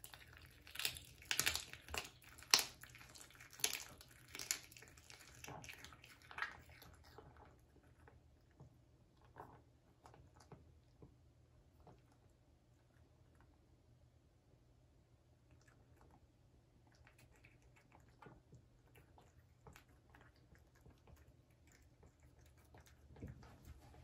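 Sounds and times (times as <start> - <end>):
cat chewing and licking: 0.0 - 14.0, 15.2 - 24.0.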